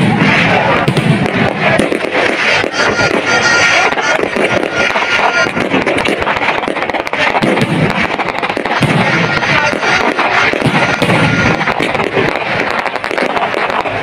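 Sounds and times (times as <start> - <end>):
fireworks booms: 0.0 - 14.0
fireworks crackling: 0.0 - 14.0.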